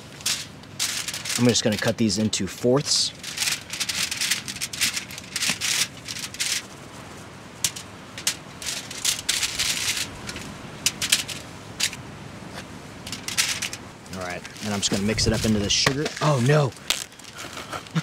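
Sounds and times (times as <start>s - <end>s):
foil and packaging crinkling: 0.0s - 18.0s.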